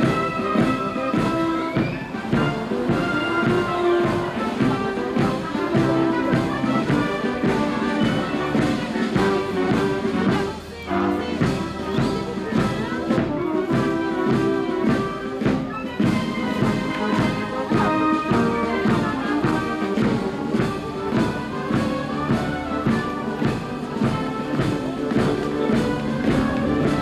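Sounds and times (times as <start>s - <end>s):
marching band playing brass: 0.0s - 27.0s
steady drum beat: 0.0s - 27.0s.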